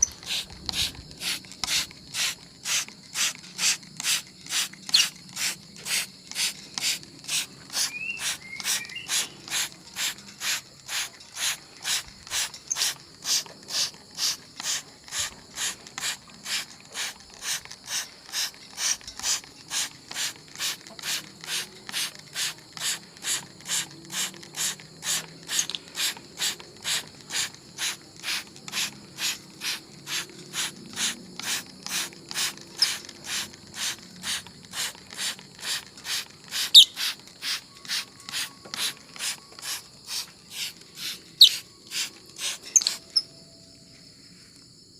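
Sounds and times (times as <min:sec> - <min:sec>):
spray bottle hissing squirts: 0:00.0 - 0:43.2.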